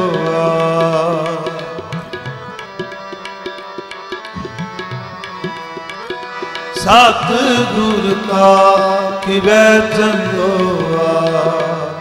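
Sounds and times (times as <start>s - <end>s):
harmonium chords: 0.0s - 12.0s
tabla strokes: 0.0s - 12.0s.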